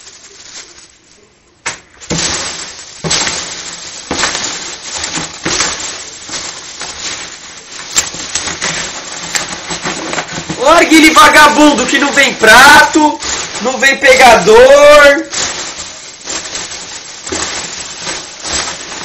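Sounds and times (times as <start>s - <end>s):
foam packing peanuts rustling: 0.0s - 19.0s.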